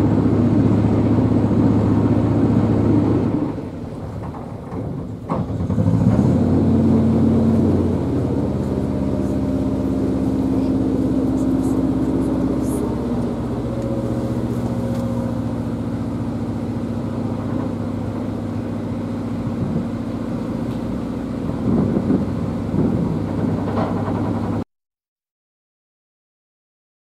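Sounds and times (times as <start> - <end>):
boat engine humming: 0.0 - 24.6.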